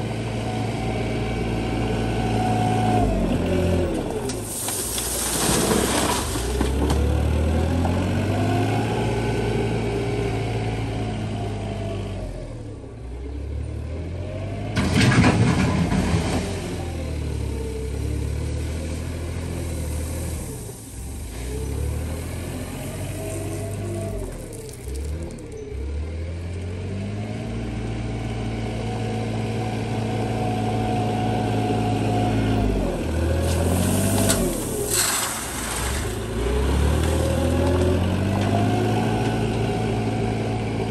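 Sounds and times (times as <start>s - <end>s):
wheel loader diesel engine revving: 0.0s - 40.9s.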